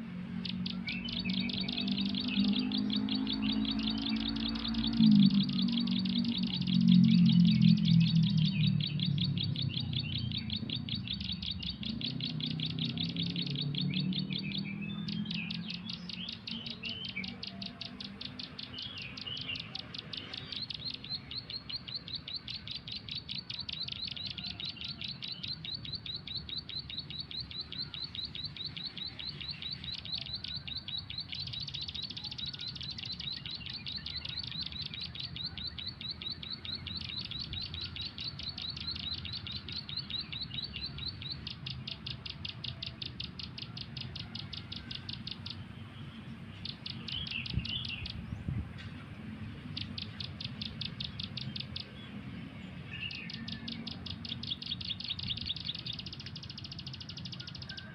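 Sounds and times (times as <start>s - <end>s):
bird chirping rapidly: 0.0s - 57.9s.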